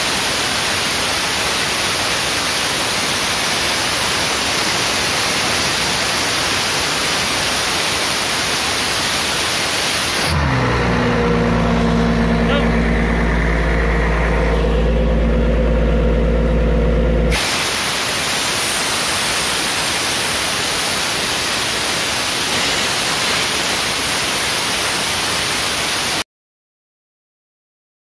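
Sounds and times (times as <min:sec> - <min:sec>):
diesel air compressor running: 0:00.0 - 0:26.1.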